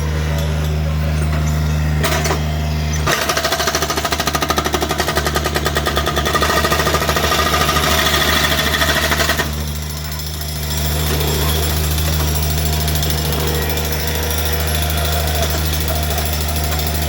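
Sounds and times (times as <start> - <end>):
low engine drone: 0.0 - 17.0
jackhammer breaking concrete: 0.3 - 17.0.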